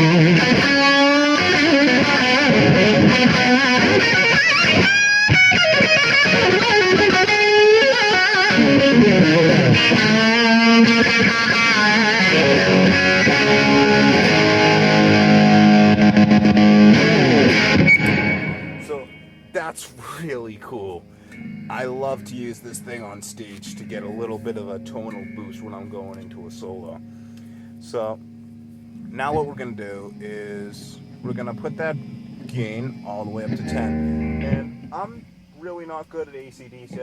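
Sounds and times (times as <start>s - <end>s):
distorted electric guitar: 0.0s - 37.0s.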